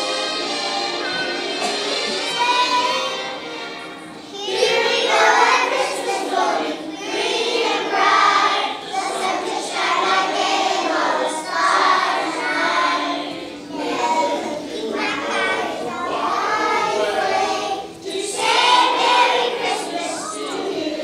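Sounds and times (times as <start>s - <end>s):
children's choir singing: 0.0s - 21.0s.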